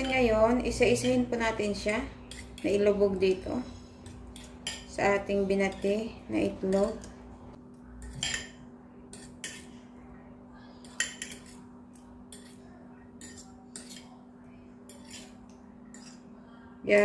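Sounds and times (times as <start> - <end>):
utensil clinking against a bowl: 0.0 - 7.2, 8.0 - 9.8, 10.8 - 17.0
low steady hum: 0.0 - 17.0.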